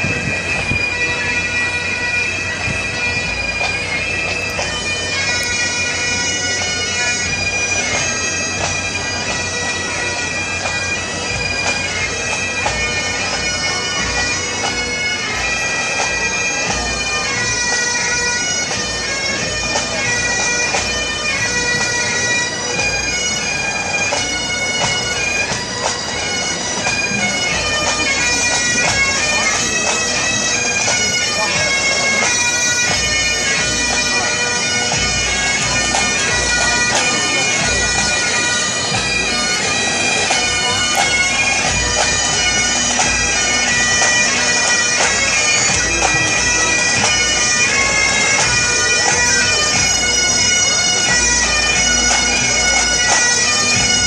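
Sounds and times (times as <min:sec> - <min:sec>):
bagpipes playing a march: 0:00.0 - 0:54.0.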